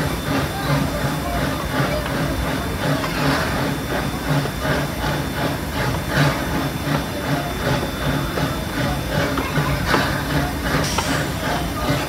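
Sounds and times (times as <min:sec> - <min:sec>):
steam locomotive exhaust chuffing: 0:00.0 - 0:12.0
wheels rolling on rails: 0:00.0 - 0:12.0.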